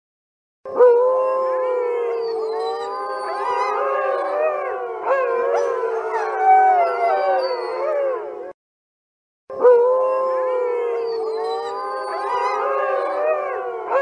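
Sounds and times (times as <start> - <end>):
wolves howling together: 0.7 - 8.6, 9.5 - 14.0.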